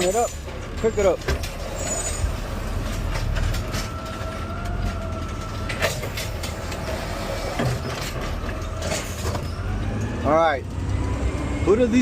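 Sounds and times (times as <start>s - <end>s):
diesel engine running: 0.0s - 12.0s
hydraulic whine: 1.6s - 11.8s.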